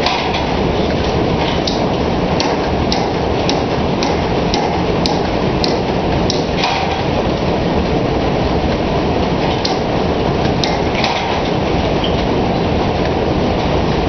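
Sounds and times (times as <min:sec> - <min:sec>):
machine rumble: 0:00.0 - 0:14.0.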